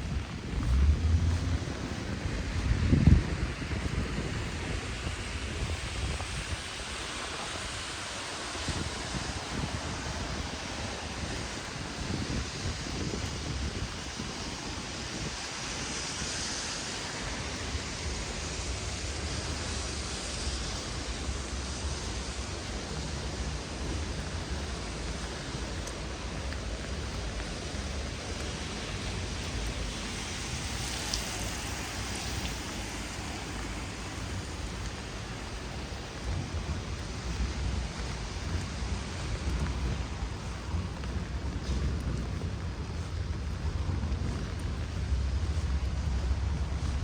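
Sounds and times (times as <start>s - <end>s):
heavy rain falling: 0.0s - 47.0s
wind rumble on microphone: 0.0s - 47.0s.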